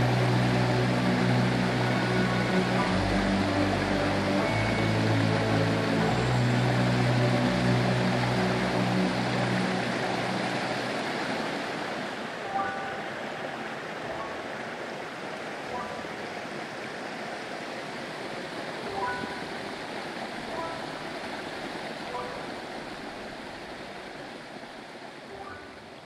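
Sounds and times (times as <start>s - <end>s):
soft background music: 0.0s - 16.6s, 18.6s - 23.3s, 25.3s - 26.0s
stream rushing: 0.0s - 26.0s.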